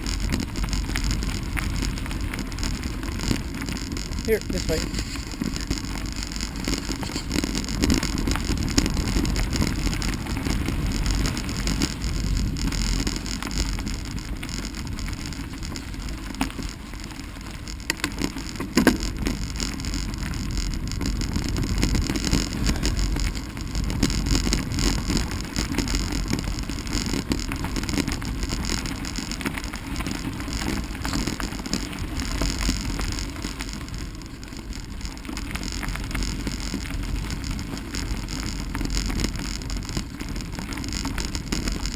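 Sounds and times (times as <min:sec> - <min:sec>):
bicycle tyre and frame rattle: 0:00.0 - 0:41.9
wind buffeting microphone: 0:00.0 - 0:41.9.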